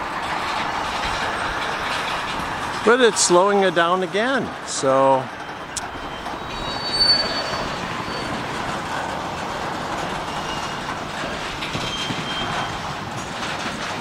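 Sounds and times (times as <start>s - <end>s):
freight train wheels rumbling: 0.0s - 14.0s
high wheel squeals: 1.7s - 13.6s.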